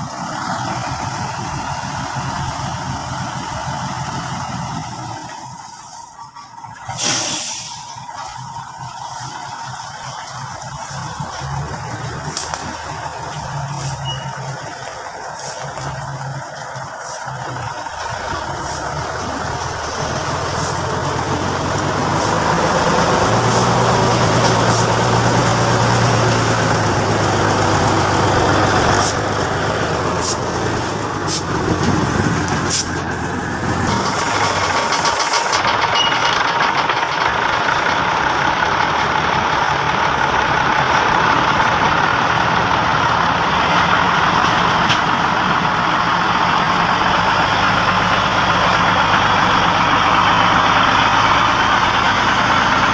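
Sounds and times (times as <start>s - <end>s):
heavy truck engine running: 0.0s - 52.9s.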